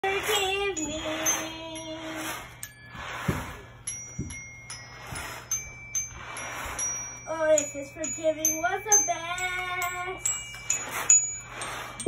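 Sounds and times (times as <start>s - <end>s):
toy xylophone notes: 0.0s - 12.0s.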